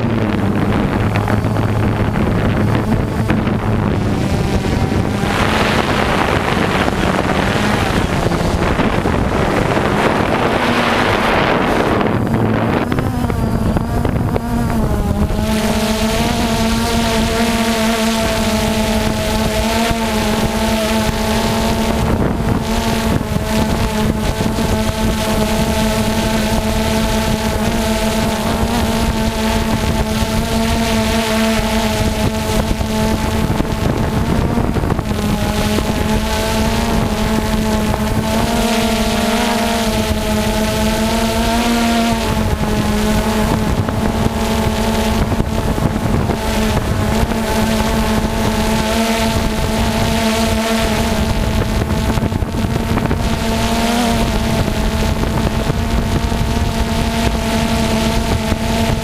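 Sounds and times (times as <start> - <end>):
radio-controlled car engines: 0.0 - 59.0
steady hum: 0.0 - 59.0
wind noise on microphone: 0.0 - 59.0.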